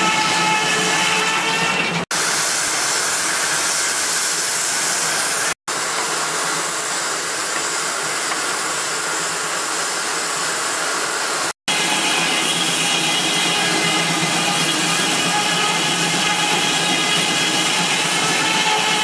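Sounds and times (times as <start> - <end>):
steam sawmill hissing: 0.0 - 19.0.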